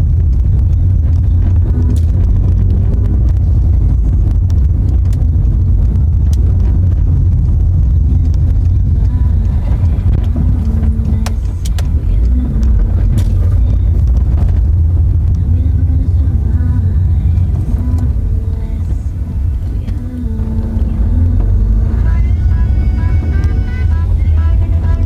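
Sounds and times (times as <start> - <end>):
engine and road rumble: 0.0 - 25.0.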